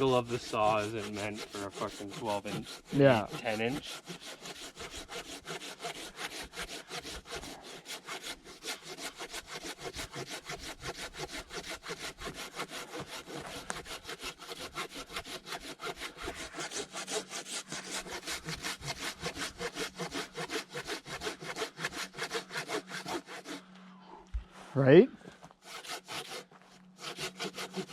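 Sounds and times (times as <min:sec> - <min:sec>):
hand saw cutting through log: 0:00.0 - 0:23.7, 0:25.3 - 0:27.9.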